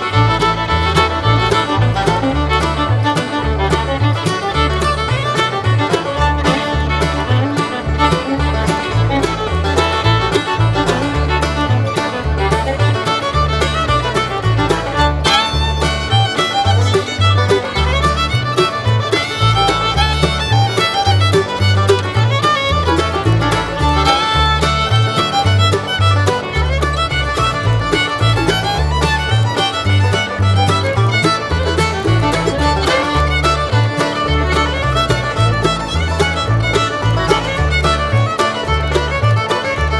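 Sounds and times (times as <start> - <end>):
bass beat: 0.0 - 39.9
fiddle: 0.0 - 39.9.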